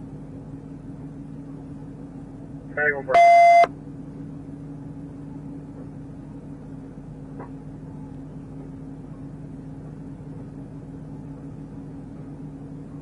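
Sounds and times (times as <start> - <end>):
police vehicle engine drone: 0.0 - 13.0.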